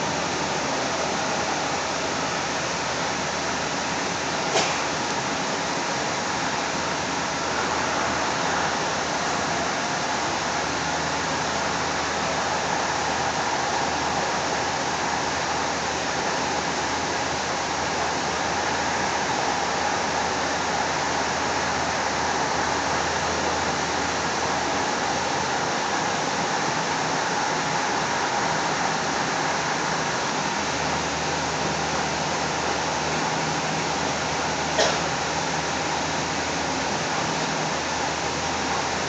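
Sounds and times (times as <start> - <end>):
light rail train rushing: 0.0 - 39.0.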